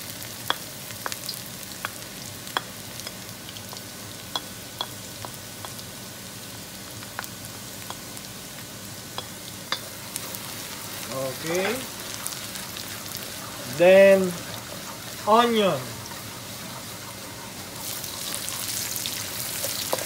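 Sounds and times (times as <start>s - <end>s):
garlic sizzling in hot oil: 0.0s - 20.0s.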